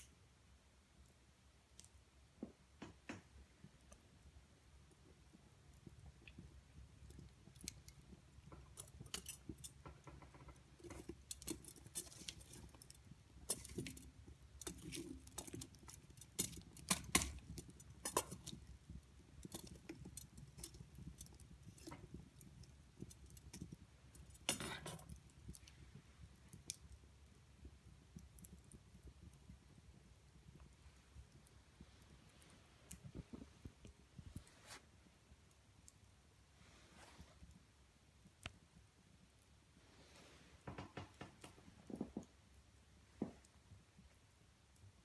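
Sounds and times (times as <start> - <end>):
firewood crackling and popping: 0.0 - 36.4, 40.6 - 45.0.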